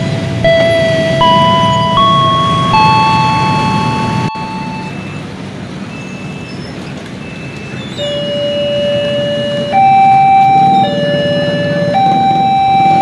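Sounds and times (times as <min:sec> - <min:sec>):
level crossing warning buzzer: 0:00.0 - 0:05.3, 0:07.3 - 0:13.0
motorbikes and road traffic: 0:00.0 - 0:13.0.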